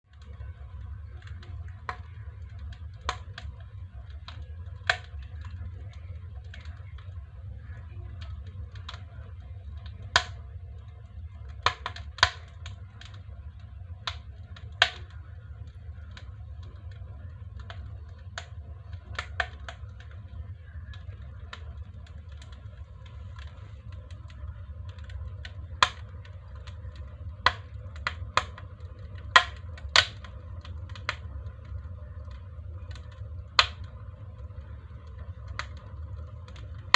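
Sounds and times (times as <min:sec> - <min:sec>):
wood fire crackling and popping: 0:00.0 - 0:36.9
steady low hum: 0:00.1 - 0:36.9.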